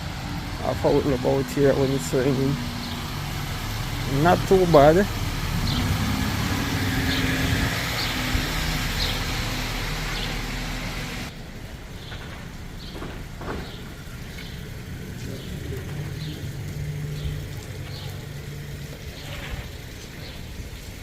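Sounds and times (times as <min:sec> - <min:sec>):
tyres hissing on wet street: 0:00.0 - 0:21.0
vehicle engine hum: 0:00.0 - 0:21.0.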